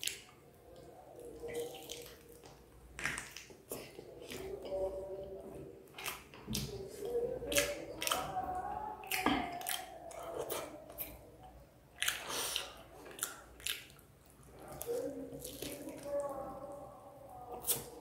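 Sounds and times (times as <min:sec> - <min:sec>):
person chewing: 0:00.0 - 0:16.8, 0:17.5 - 0:18.0.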